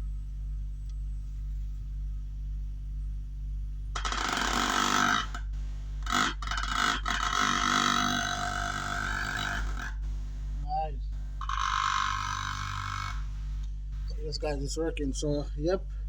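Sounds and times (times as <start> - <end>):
low bass test tone: 0.0 - 4.0, 4.7 - 16.0
loud buzzing rattle: 0.0 - 16.0.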